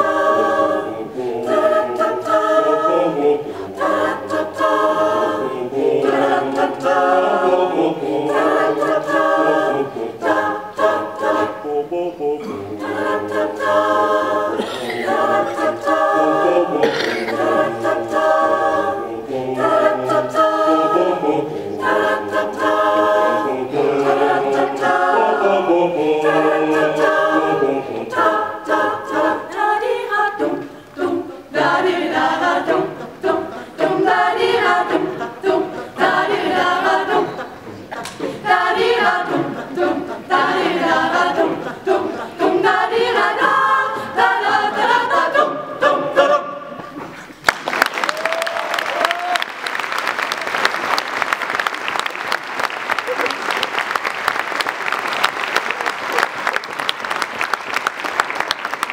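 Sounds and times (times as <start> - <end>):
mixed choir singing a cappella: 0.0 - 47.4.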